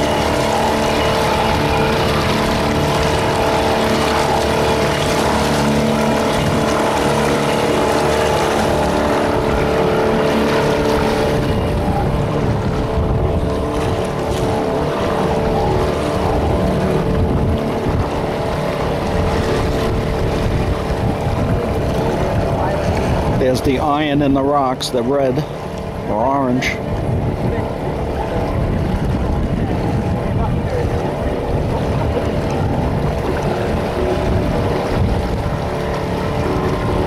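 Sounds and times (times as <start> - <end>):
boat motor running: 0.0 - 37.0
wind buffeting microphone: 0.0 - 37.0.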